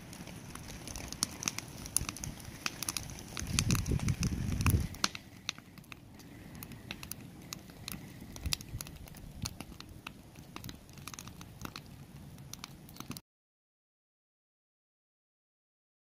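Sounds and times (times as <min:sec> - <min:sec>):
campfire crackling and popping: 0:00.0 - 0:13.2.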